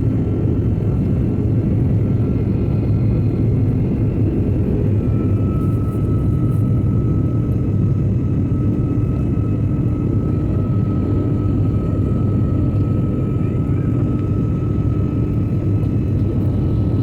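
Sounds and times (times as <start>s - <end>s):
jet engines and airflow rumble: 0.0s - 17.0s.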